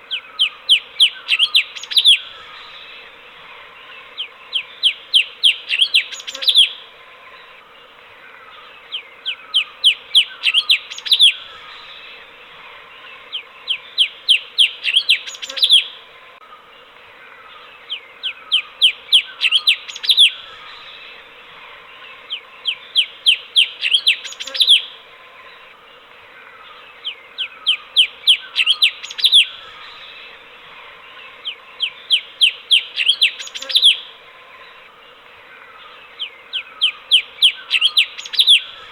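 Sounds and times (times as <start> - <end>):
bulbul chirping song: 0.0 - 7.6, 8.4 - 12.4, 13.0 - 16.1, 16.8 - 38.9
faint steady hum: 0.0 - 38.9.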